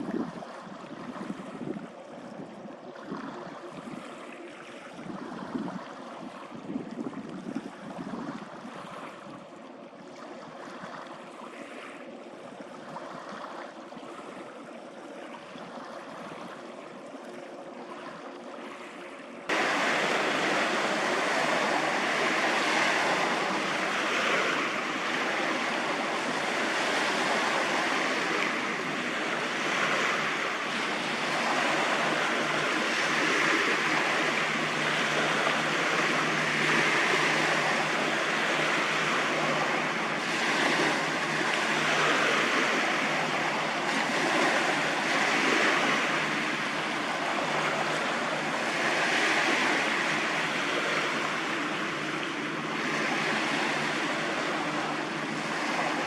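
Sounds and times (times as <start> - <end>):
waves washing: 0.0 - 56.0
wind: 0.0 - 56.0.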